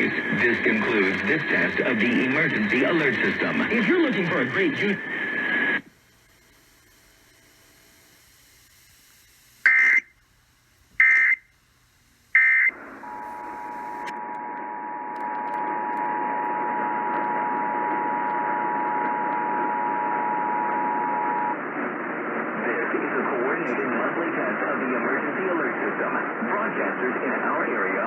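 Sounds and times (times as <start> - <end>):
radio hiss: 0.0 - 28.0.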